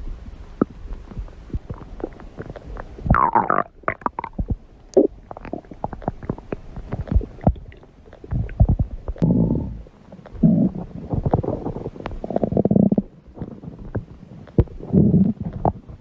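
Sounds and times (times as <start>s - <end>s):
stomach growling: 0.6s - 16.0s.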